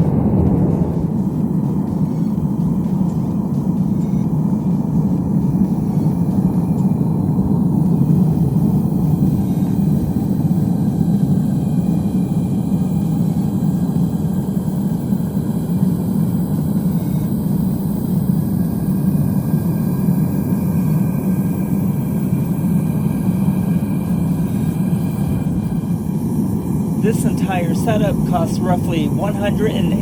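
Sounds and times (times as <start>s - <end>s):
propane torch burner roaring: 0.0s - 30.0s.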